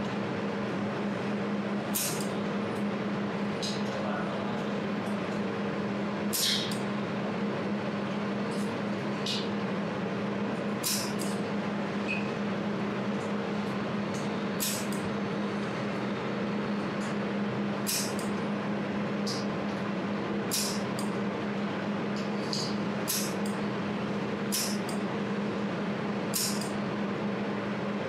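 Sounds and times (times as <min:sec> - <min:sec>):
laser welder humming: 0:00.2 - 0:03.6, 0:08.0 - 0:27.8.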